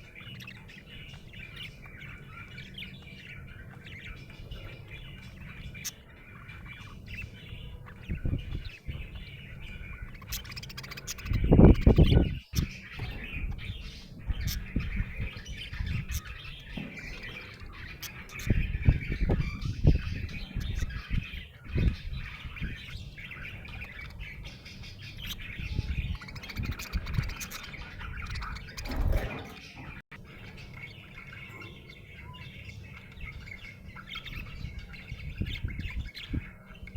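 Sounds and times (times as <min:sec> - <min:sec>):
budgerigar chirping: 0:00.0 - 0:36.9.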